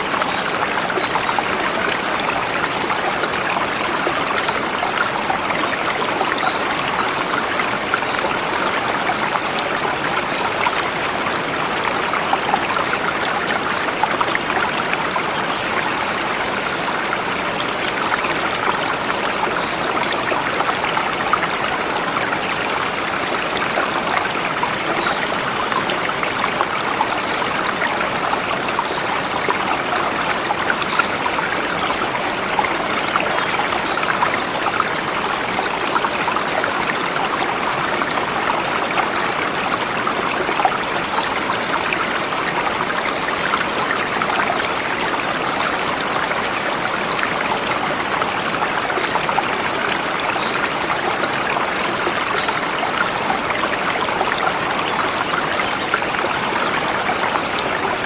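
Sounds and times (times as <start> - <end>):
river flowing over rocks: 0.0 - 58.0
water splashes and trickles: 0.0 - 58.0.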